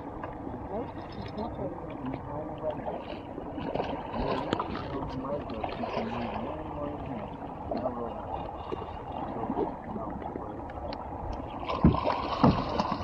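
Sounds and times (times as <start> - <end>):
boat motor: 0.0 - 13.0
water rushing: 0.0 - 13.0.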